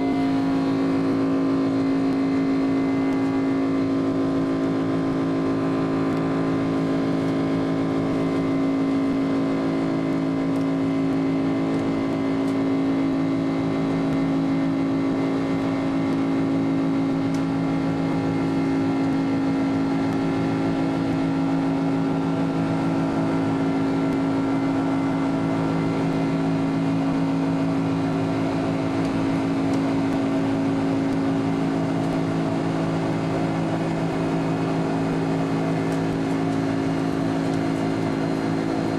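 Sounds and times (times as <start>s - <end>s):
jet cabin engine and airflow rush: 0.0s - 38.9s
steady low hum: 0.0s - 38.9s.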